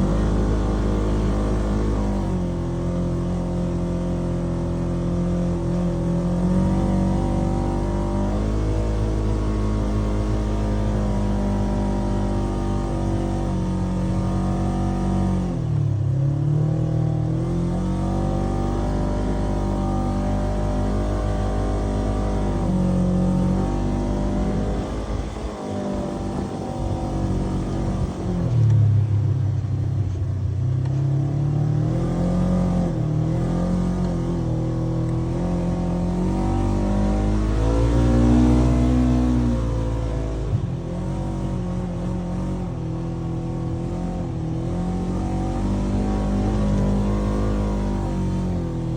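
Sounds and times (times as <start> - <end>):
engine revving: 0.0 - 48.9.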